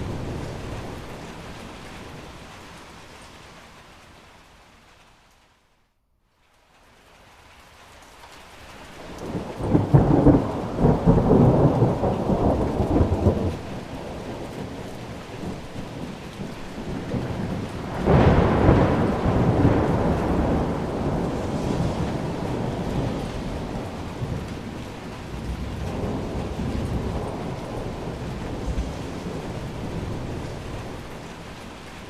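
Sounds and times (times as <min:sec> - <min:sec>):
thunder rumbling: 0:00.0 - 0:03.0, 0:09.0 - 0:32.0
rain falling: 0:00.0 - 0:32.0.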